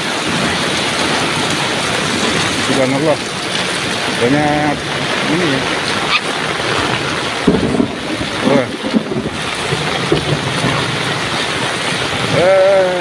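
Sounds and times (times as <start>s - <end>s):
heavy rain pouring: 0.0s - 13.0s
wind noise on microphone: 0.0s - 13.0s.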